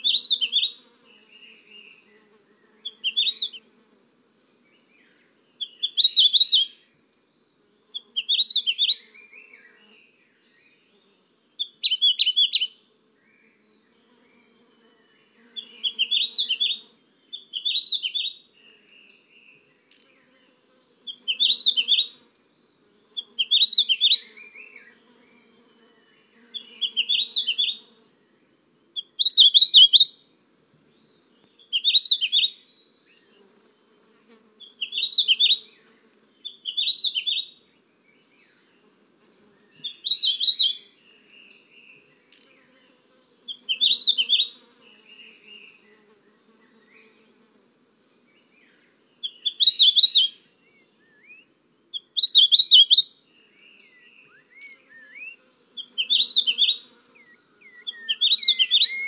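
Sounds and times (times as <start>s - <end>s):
songbird chirping: 0.0s - 3.9s, 4.5s - 7.0s, 7.7s - 59.0s.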